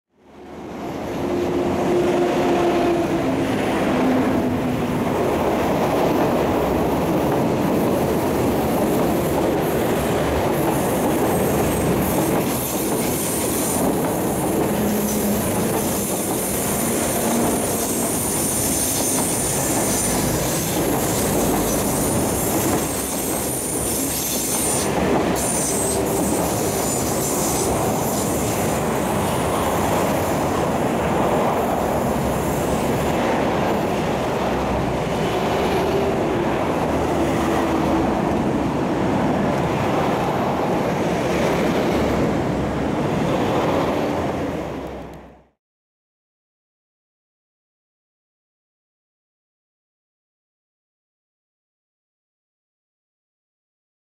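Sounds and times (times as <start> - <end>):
train wheels rumbling on rails: 0.5 - 45.3
rhythmic rail clatter: 0.8 - 44.7.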